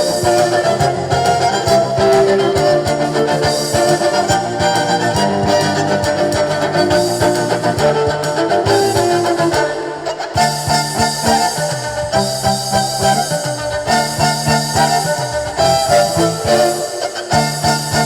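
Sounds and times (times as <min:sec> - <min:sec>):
sustained melodic notes: 0:00.0 - 0:17.2
busy percussion: 0:00.0 - 0:18.0.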